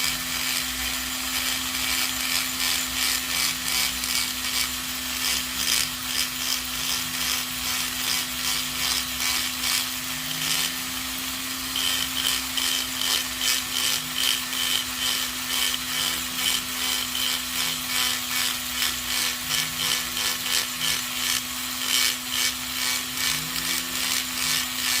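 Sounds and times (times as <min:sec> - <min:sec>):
rotary tool humming: 0:00.0 - 0:25.0.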